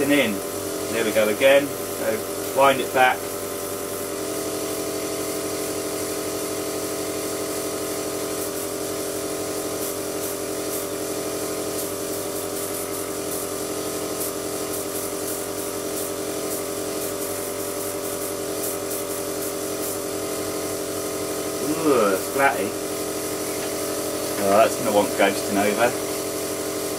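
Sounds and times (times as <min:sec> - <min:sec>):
air compressor humming: 0:00.0 - 0:26.9
airbrush hissing: 0:00.0 - 0:26.9.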